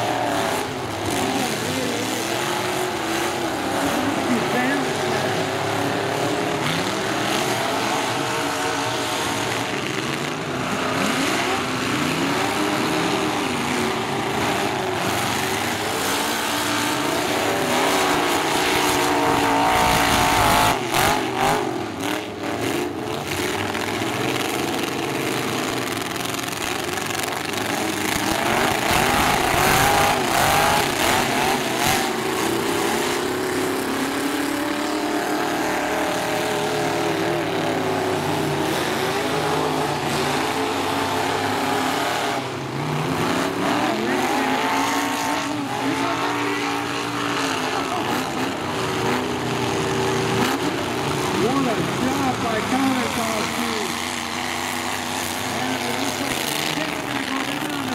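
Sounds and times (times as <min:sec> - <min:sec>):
truck engines revving: 0:00.0 - 0:57.9.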